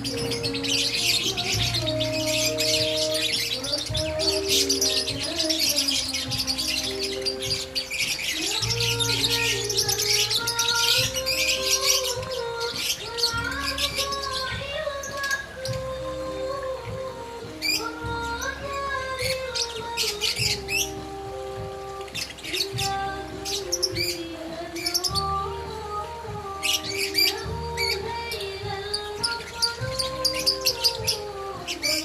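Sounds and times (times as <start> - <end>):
background music with bass line: 0.0 - 32.0
small birds chirping: 0.0 - 32.0.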